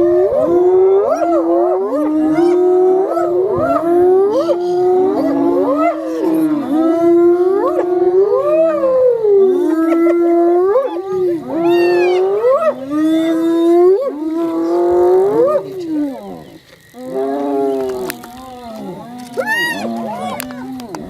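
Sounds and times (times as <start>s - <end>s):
hyenas whooping and yelping: 0.0s - 21.0s.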